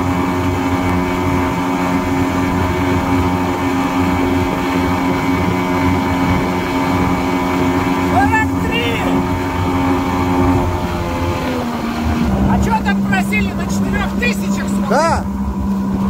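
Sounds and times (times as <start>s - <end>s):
boat motor running: 0.0s - 16.0s
rush of wind and water: 0.0s - 16.0s.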